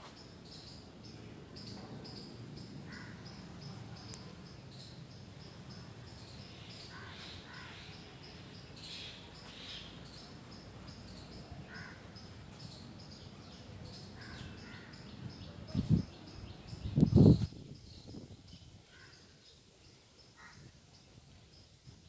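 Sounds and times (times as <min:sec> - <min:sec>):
birds chirping: 0:00.0 - 0:21.8.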